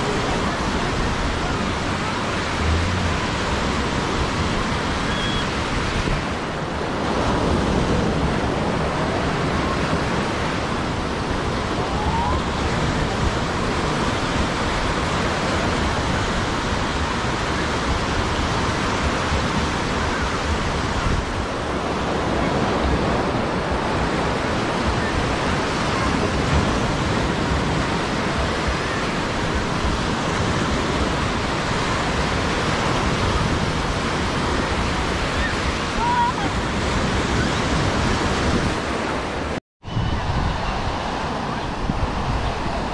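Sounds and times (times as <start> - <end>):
waves washing on beach: 0.0 - 42.9
wind on microphone: 0.0 - 42.9.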